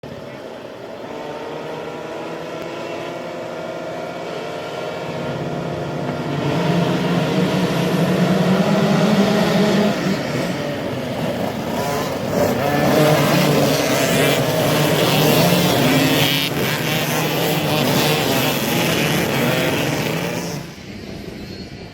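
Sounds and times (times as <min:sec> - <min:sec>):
two-stroke motocross bike engines: 0:00.0 - 0:21.9.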